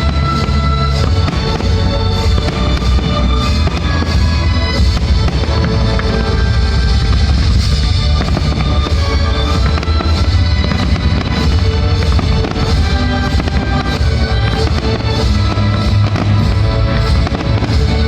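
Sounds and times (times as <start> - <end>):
fireworks bursting and crackling: 0.0 - 18.0
loud music: 0.0 - 18.0.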